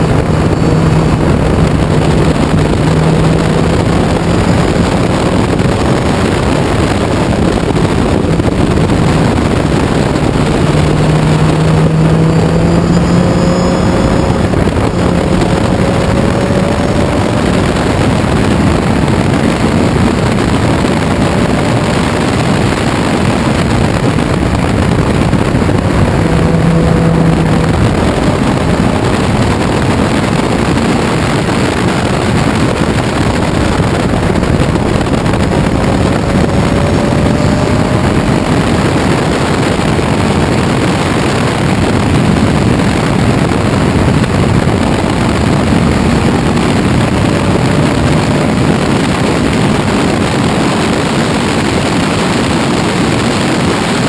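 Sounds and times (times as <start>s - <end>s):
race car engine running hard: 0.0s - 54.0s
wind and road noise: 0.0s - 54.0s.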